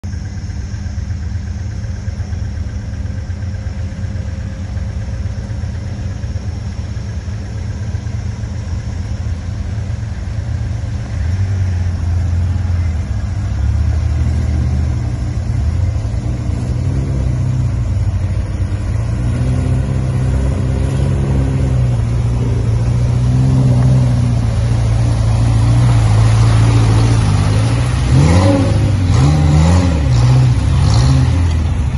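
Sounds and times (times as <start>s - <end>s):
car engine running: 0.0s - 31.9s
vehicle driving through water: 1.1s - 31.9s.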